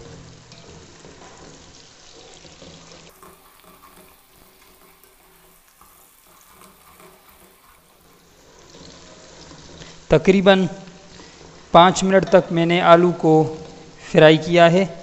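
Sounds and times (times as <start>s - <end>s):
wooden spoon stirring: 0.0s - 14.0s
potatoes and onions sizzling in oil: 0.0s - 15.0s.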